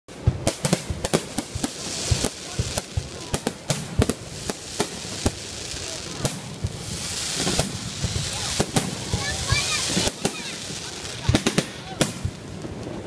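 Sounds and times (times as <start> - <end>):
crackling hiss of fireworks: 0.1 - 13.0
fireworks banging: 0.1 - 13.0.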